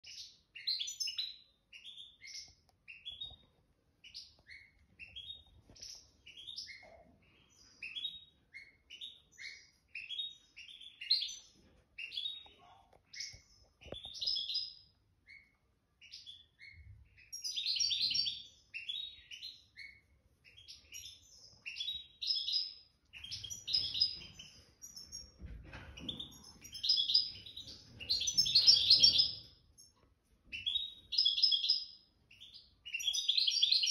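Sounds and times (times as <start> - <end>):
songbird twittering song: 0.0 - 33.9.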